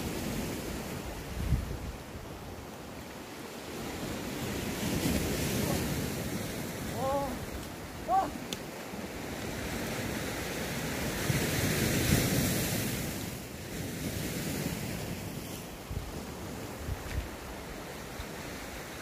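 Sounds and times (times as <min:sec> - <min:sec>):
wind buffeting microphone: 0:00.0 - 0:02.8, 0:03.6 - 0:18.9
sea waves washing ashore: 0:00.0 - 0:19.0.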